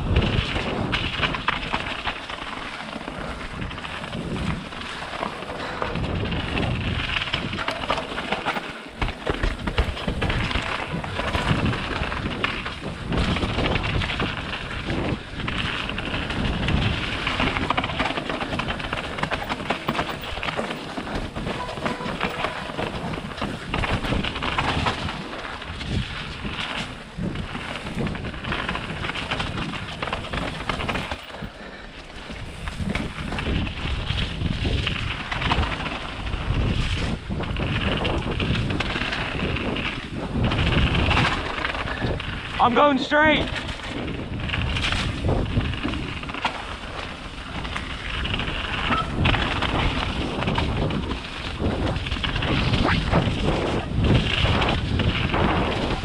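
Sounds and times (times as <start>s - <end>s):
bike ride rumble: 0.0s - 56.0s
wind buffeting microphone: 0.0s - 56.0s.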